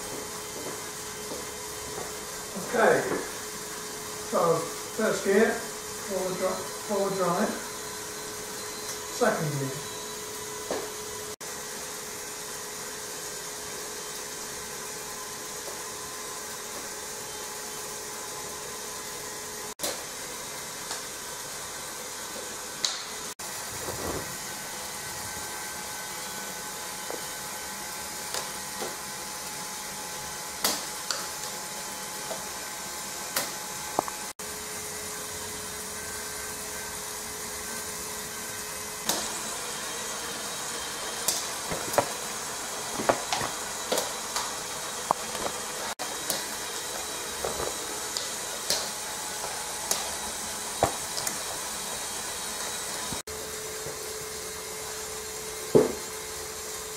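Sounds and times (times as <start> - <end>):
electric motor whine: 0.0 - 56.9.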